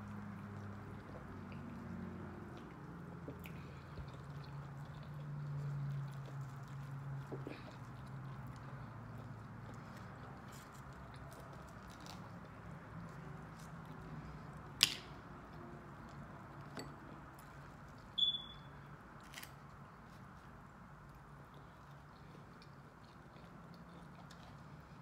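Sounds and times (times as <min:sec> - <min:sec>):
chewing: 0:00.0 - 0:18.1, 0:19.2 - 0:25.0.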